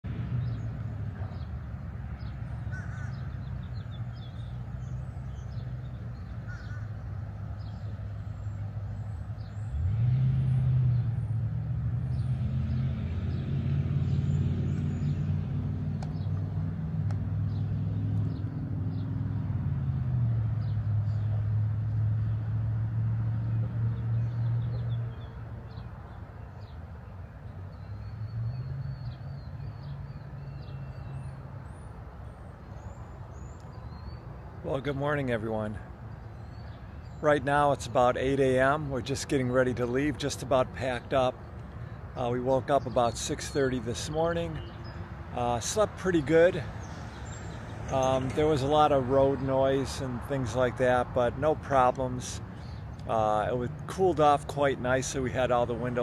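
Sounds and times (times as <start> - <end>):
quieter engine hum: 0.0 - 56.0
birds chirping: 0.1 - 56.0.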